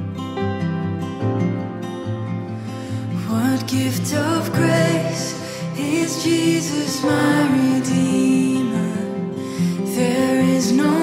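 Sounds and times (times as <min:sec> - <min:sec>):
acoustic guitars: 0:00.0 - 0:11.0
keyboard: 0:00.0 - 0:11.0.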